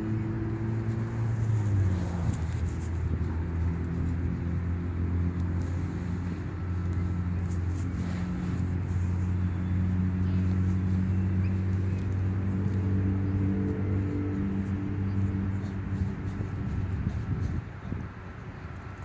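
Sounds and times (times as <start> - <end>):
engine running with low hum: 0.0 - 19.0.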